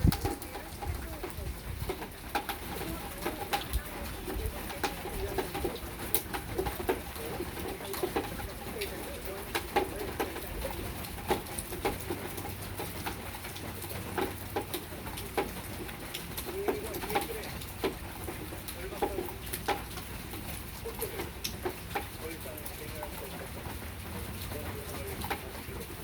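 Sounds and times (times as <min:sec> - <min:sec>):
raindrops tapping on hard surfaces: 0:00.0 - 0:26.0
steady rain patter: 0:00.0 - 0:26.0.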